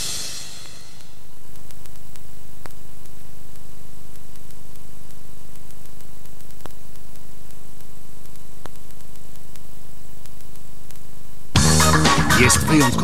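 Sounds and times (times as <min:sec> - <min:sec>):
tape hiss and hum: 0:00.0 - 0:13.0
clicks: 0:00.6 - 0:11.5.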